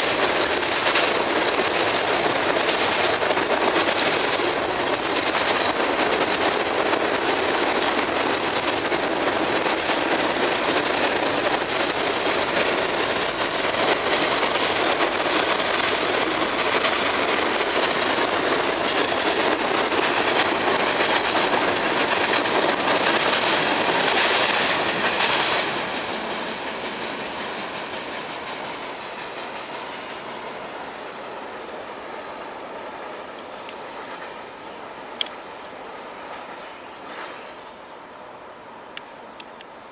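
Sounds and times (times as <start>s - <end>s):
freight train wheels rolling on rails: 0.0s - 39.9s.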